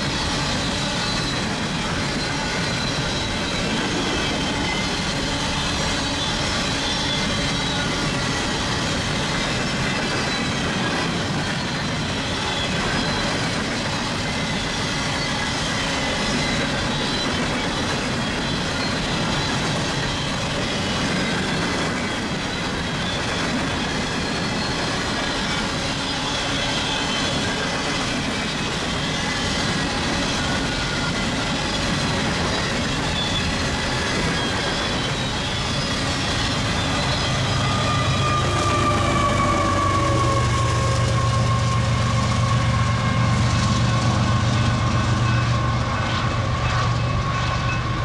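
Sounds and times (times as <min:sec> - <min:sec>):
diesel locomotive engine drone: 0:00.0 - 0:48.0
high wheel squeal: 0:00.0 - 0:48.0
train wheels on rails: 0:00.0 - 0:48.0.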